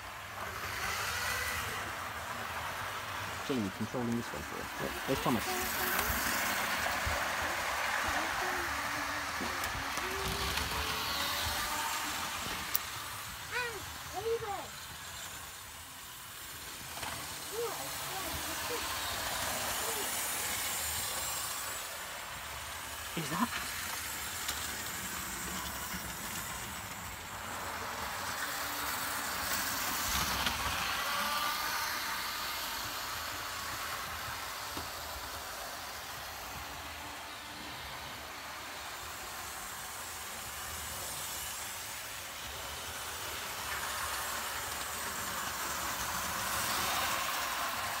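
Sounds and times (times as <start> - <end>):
model trains whirring on track: 0.0 - 48.0.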